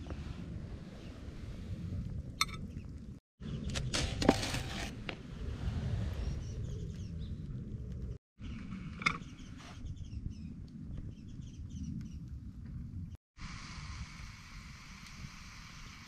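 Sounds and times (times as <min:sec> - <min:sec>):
wind on microphone: 0:00.0 - 0:03.2, 0:05.0 - 0:16.0.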